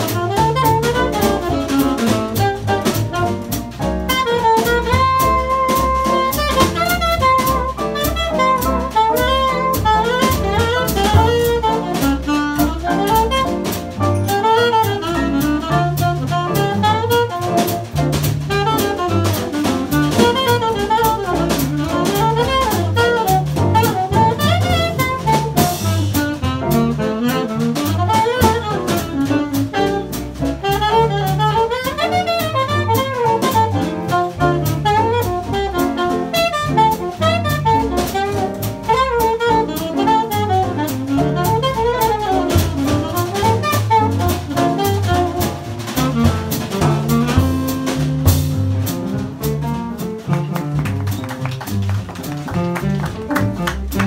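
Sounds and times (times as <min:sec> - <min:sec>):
drum kit cymbals: 0:00.0 - 0:50.7
saxophone solo: 0:00.0 - 0:54.0
walking double bass: 0:00.0 - 0:54.0.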